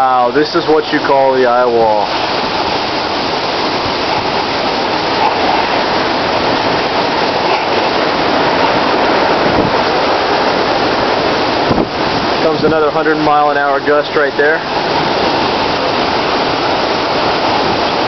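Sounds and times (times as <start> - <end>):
hurricane wind and driving rain: 0.0 - 18.0.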